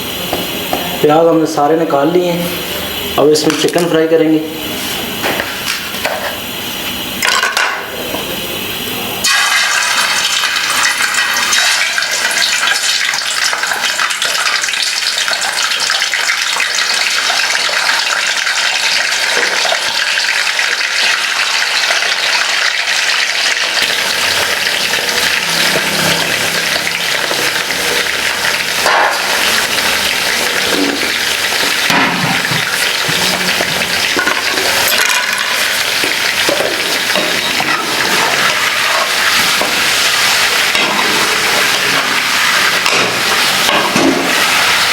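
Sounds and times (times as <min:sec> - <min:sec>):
chicken frying in oil: 0:00.0 - 0:44.9.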